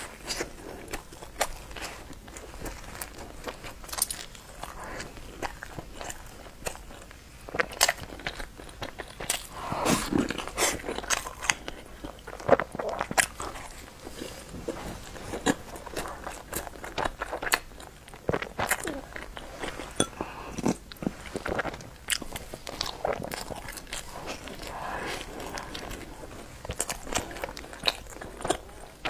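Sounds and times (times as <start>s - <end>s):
wet chewing of bread: 0.0s - 29.0s.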